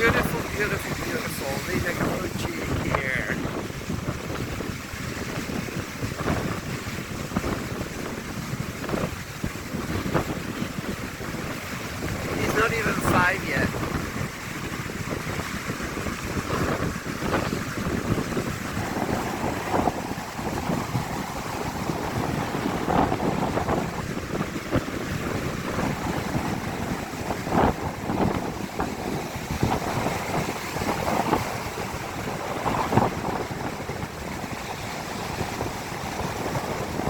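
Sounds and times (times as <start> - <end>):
gusty wind buffeting microphone: 0.0 - 37.0
ocean surf breaking: 0.0 - 37.0.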